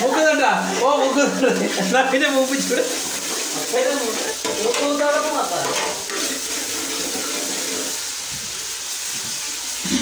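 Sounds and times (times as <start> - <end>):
ginger sizzling in hot oil: 0.0 - 10.0.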